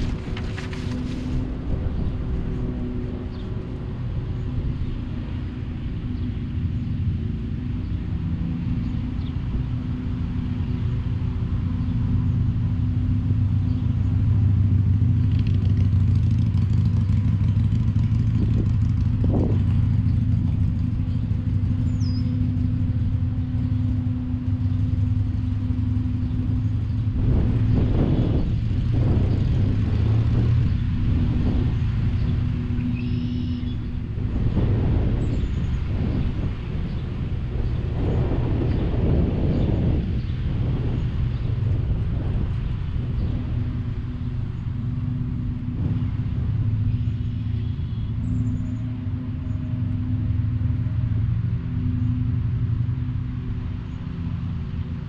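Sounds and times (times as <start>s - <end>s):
constant hum: 0.0s - 55.0s
low mechanical rumble: 0.0s - 55.0s.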